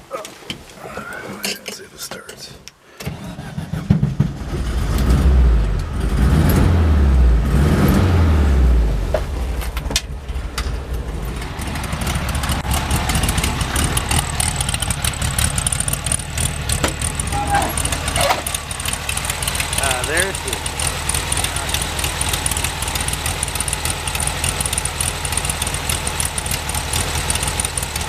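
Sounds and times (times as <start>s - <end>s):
car engine revving and idling: 3.2s - 28.0s.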